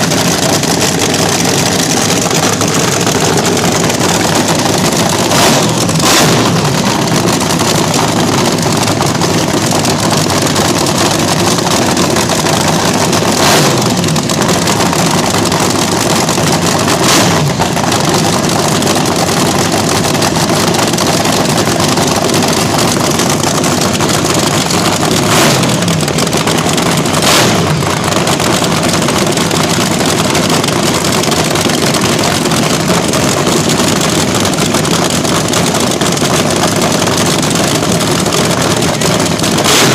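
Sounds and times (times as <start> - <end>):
engine cracks: 0.0 - 39.9
loud drag racer engine: 0.0 - 39.9.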